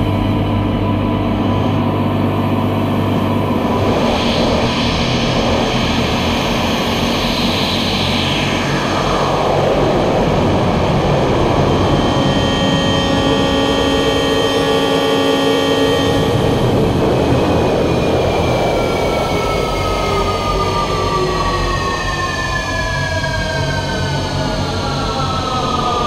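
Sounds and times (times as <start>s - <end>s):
rumbling noise wash: 0.0s - 26.0s.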